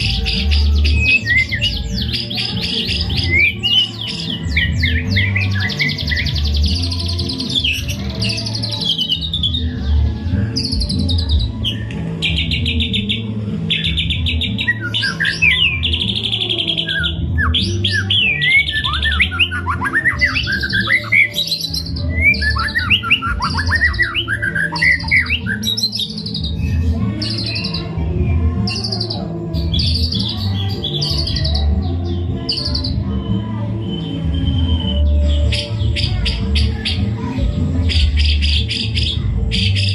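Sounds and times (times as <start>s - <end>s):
bird singing trills and whistles: 0.0s - 28.0s, 28.6s - 37.2s, 37.8s - 39.9s
background music with low beat: 0.0s - 39.9s.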